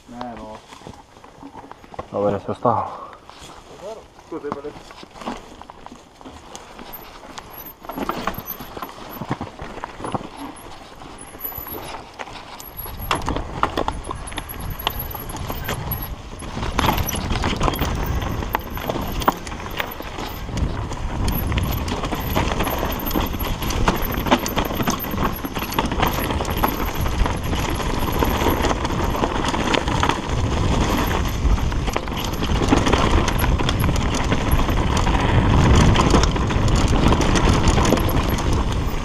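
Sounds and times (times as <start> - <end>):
bike rattling over roots and rocks: 0.0 - 39.0.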